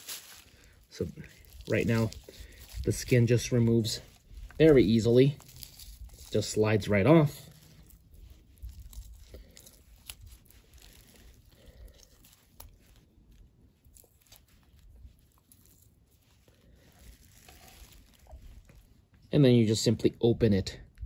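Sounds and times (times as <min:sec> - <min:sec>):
chile skin crinkling and tearing: 0:00.0 - 0:19.2.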